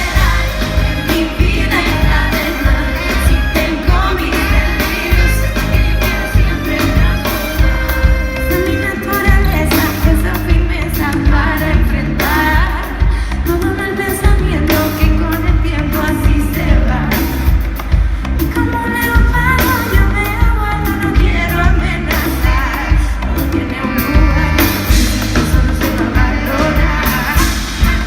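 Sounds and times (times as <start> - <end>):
bass: 0.0 - 28.0
live pop band: 0.0 - 28.0
steady drum beat: 0.0 - 28.0
woman singing lead vocal: 0.0 - 28.0.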